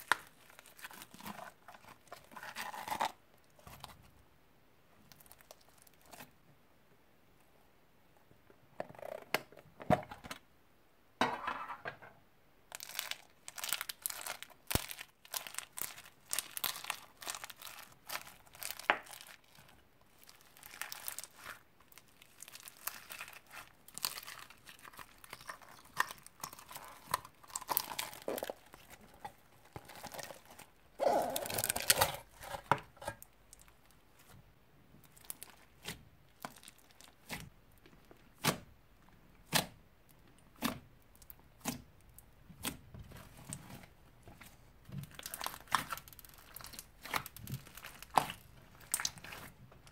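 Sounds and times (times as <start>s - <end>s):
slime crinkling and crackling: 0.0s - 4.0s, 5.0s - 6.3s, 12.7s - 34.4s, 35.0s - 38.8s, 39.4s - 49.9s.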